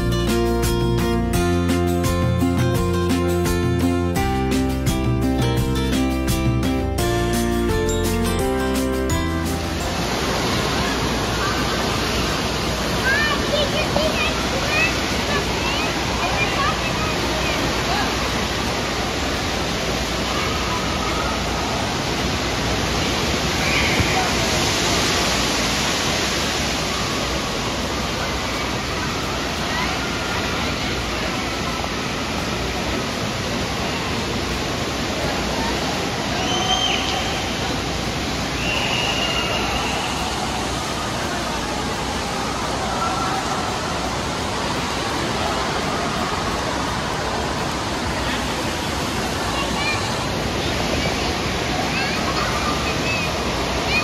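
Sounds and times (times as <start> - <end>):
rushing water: 0.0 - 54.0
faint voices: 9.5 - 54.0
water splashing: 9.5 - 54.0.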